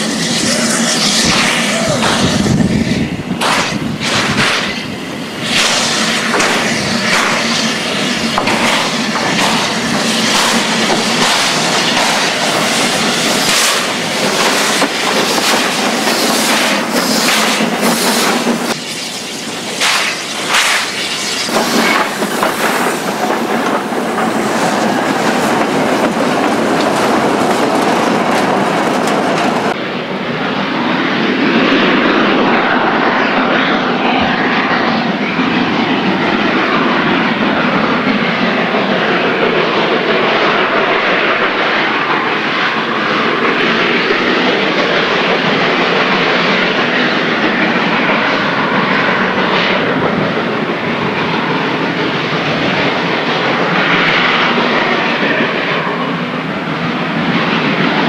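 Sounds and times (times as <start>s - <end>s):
railway boxcars rolling past: 0.0s - 31.0s, 31.6s - 58.0s
steam locomotive roaring: 0.0s - 58.0s.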